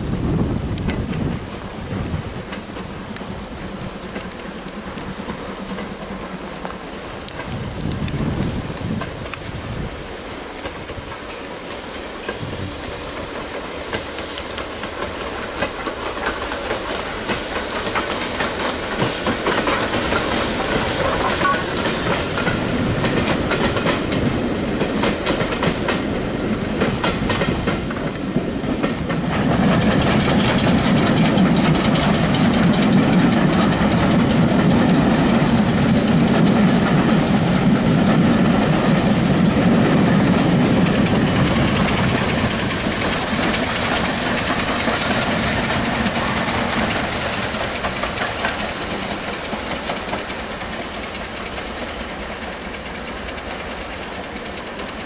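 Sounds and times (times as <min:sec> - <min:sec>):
low rumble of passing train: 0:00.0 - 0:55.0
steam locomotive hiss: 0:00.0 - 0:55.0
train wheels clattering on rail joints: 0:00.0 - 0:55.0.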